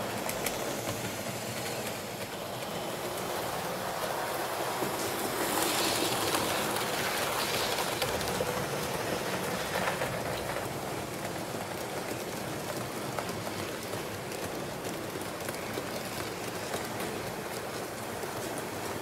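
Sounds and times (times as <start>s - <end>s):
model train hissing and clicking: 0.0s - 19.0s.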